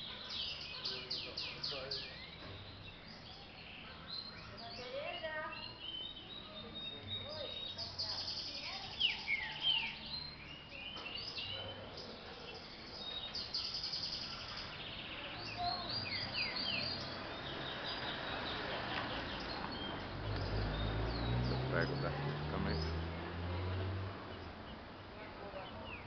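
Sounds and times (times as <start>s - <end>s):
birds singing whistled notes and trills: 0.0s - 26.0s.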